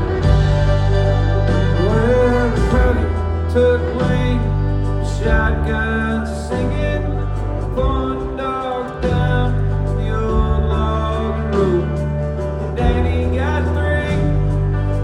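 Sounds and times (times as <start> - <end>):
country band playing live: 0.0 - 15.0.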